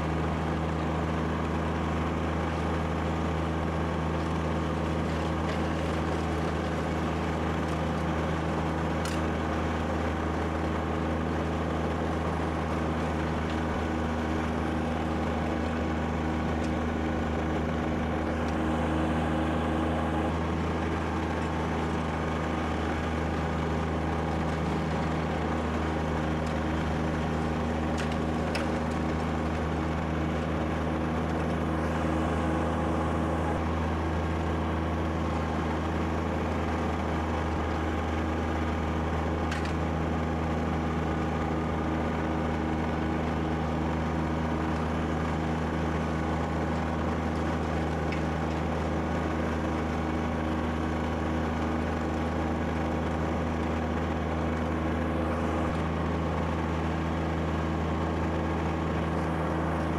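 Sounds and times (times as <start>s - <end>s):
tractor diesel engine running: 0.0s - 59.9s
snowblower throwing snow: 0.1s - 59.9s.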